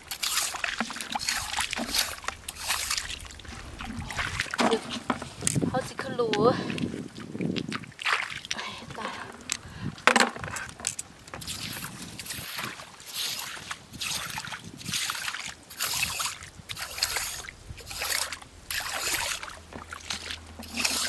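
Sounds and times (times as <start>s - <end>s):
boots wading through muddy water: 0.0s - 21.0s.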